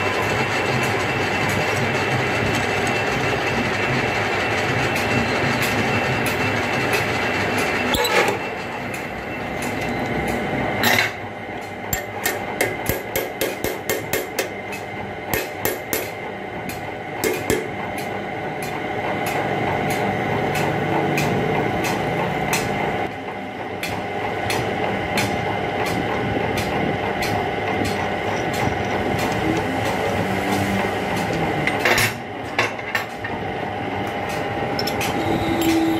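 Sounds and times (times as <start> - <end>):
lathe and machinery humming: 0.0 - 35.9.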